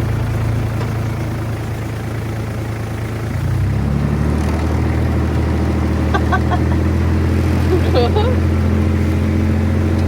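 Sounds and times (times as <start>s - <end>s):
farm vehicle engine revving: 0.0s - 10.0s.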